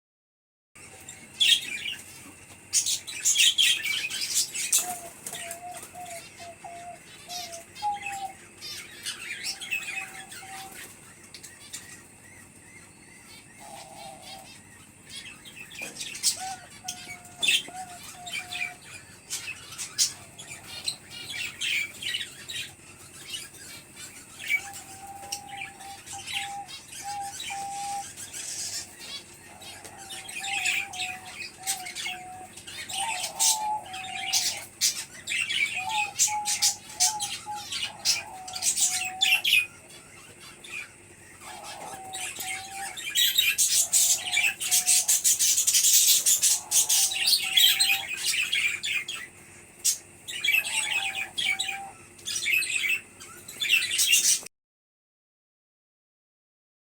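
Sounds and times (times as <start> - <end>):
birds chirping and squawking: 0.8 - 54.5.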